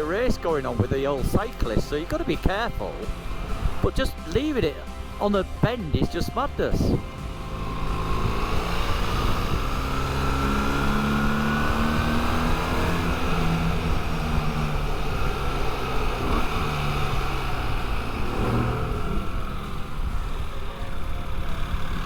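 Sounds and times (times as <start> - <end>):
motorcycle engine shifting gears: 0.0 - 22.0.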